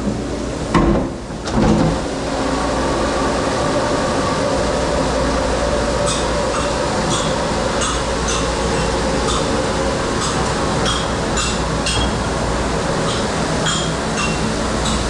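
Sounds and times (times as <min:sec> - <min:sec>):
dishwashing machine rumbling: 0:00.0 - 0:15.0.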